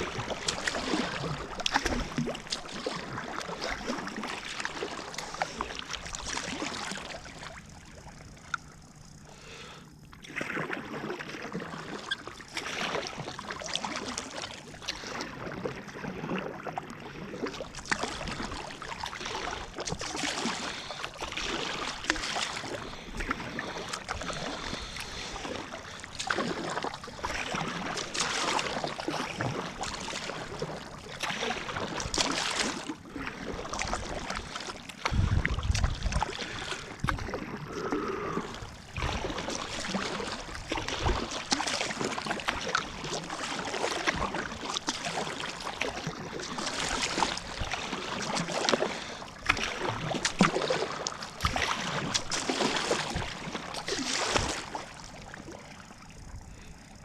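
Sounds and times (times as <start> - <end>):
paddle splashing water: 0.0 - 57.0.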